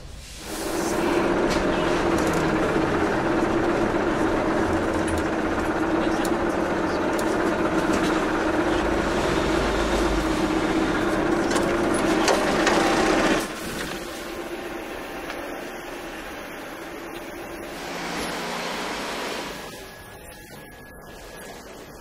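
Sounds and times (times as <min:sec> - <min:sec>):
subway train rumble and hiss: 0:00.0 - 0:20.1
motor hum: 0:00.5 - 0:22.0.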